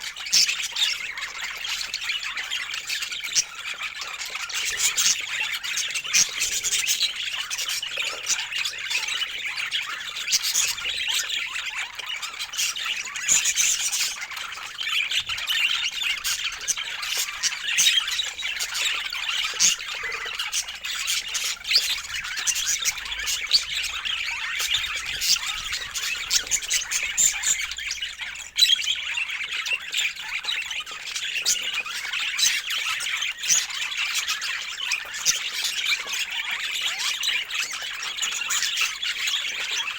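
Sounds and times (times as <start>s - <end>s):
bird squawks: 0.0s - 39.9s
budgerigars chattering and warbling: 0.0s - 39.9s.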